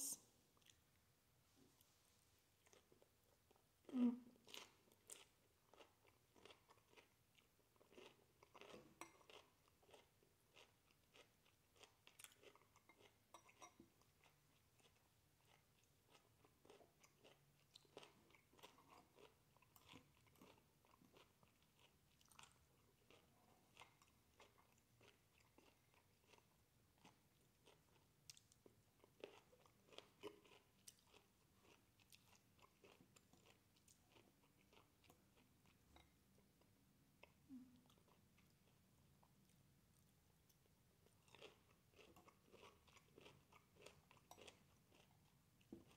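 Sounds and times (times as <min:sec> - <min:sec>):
chewing with small crunches: 0:00.5 - 0:01.1, 0:01.7 - 0:45.9.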